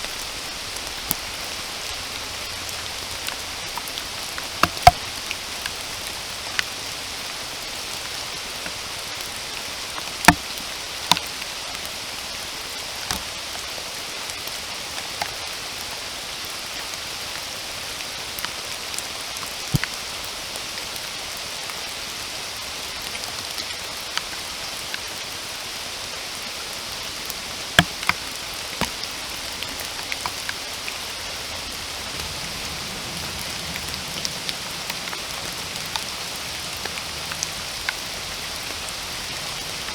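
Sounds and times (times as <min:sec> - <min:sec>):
large raindrops tapping: 0:00.0 - 0:21.1, 0:22.9 - 0:39.9
steady rainfall: 0:00.0 - 0:39.9.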